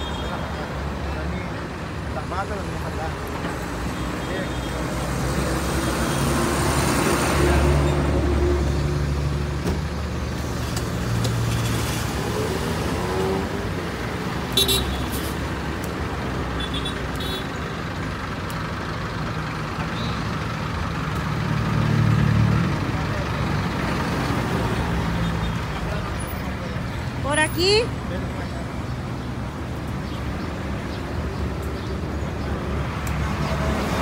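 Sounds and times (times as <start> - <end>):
bus passing: 0.0 - 34.0
traffic rumble: 0.0 - 34.0.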